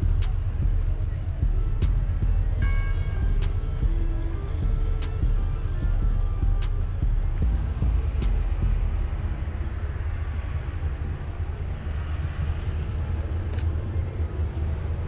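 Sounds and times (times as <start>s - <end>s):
music with fast ticking beat: 0.0s - 13.5s
vehicle engine rumble: 0.0s - 15.0s.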